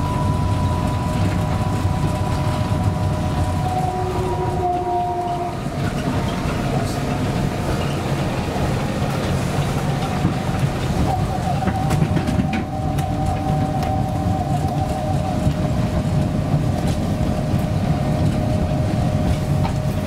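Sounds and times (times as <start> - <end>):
vehicle cabin rumble: 0.0 - 20.0.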